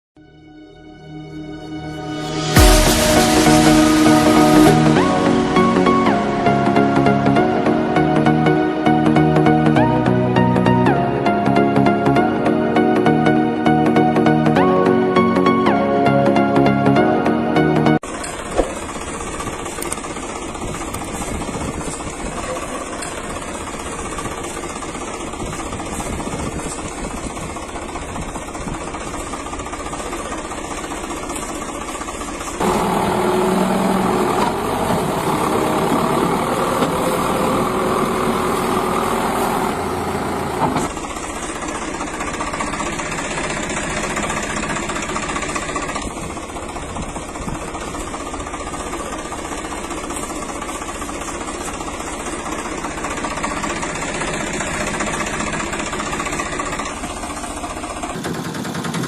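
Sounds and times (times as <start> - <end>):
engine running with rattling knock: 2.3 - 9.9, 18.0 - 59.0.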